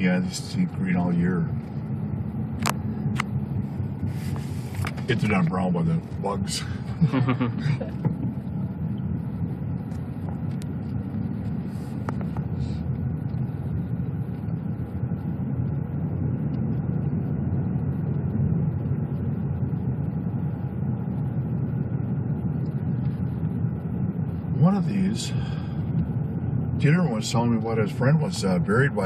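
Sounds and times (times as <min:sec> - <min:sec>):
car cabin road and engine rumble: 0:00.0 - 0:29.0.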